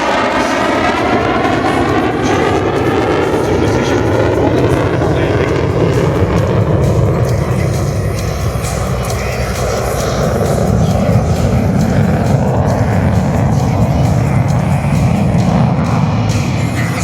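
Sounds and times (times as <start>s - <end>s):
jet engine roar with falling whine: 0.0s - 17.0s.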